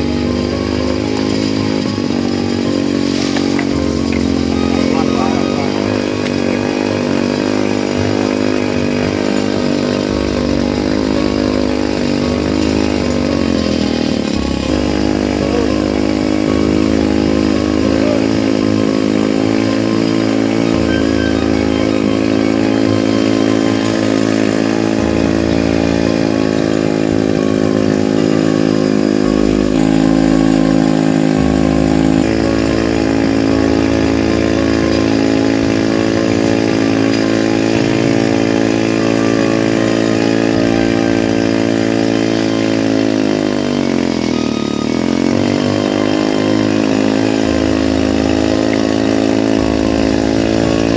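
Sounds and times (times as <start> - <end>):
motorcycle engine winch running: 0.0 - 50.9.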